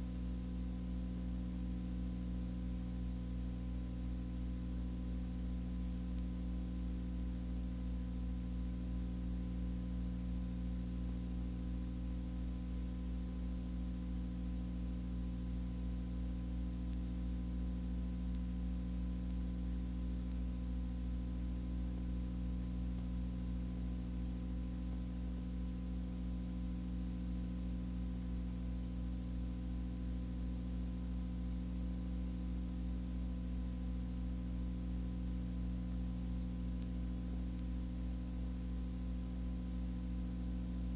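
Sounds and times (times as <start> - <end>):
constant hiss: 0.0 - 40.9
low hum of held tones: 0.0 - 40.9.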